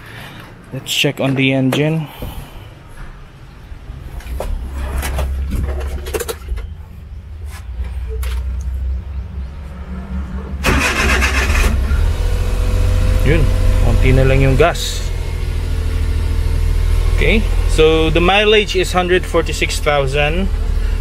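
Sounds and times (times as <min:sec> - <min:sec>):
engine running: 0:03.7 - 0:21.0.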